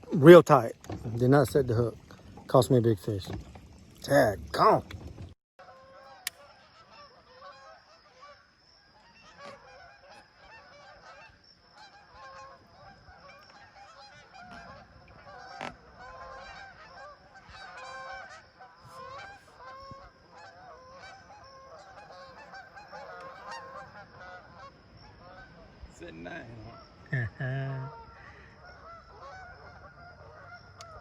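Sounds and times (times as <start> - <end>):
waterfowl calling: 0.0 - 4.9, 5.6 - 31.0.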